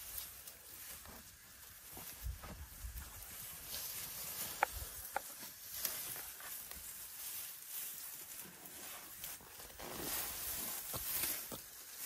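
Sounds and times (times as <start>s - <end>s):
rustling of dry grass: 0.0s - 12.0s.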